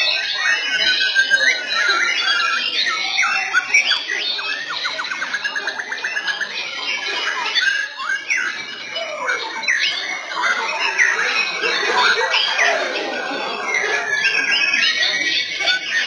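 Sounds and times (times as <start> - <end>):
birds singing whistled phrases: 0.0 - 12.9, 13.6 - 16.0.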